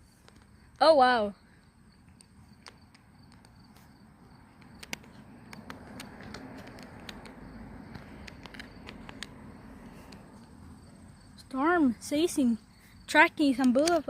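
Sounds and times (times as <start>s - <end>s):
crickets trilling: 0.1s - 14.0s.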